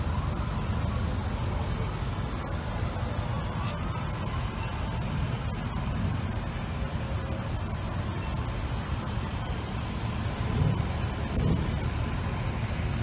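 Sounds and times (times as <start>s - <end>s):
slow cars driving past: 0.0s - 13.0s.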